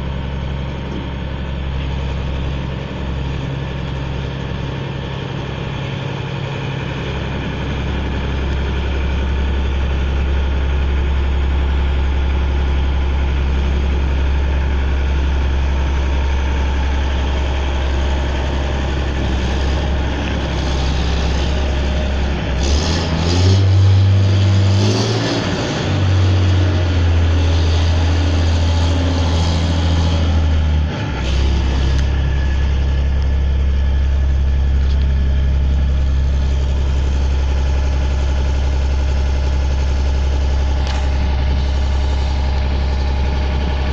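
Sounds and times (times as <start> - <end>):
combine harvester diesel engine revving: 0.0 - 43.9.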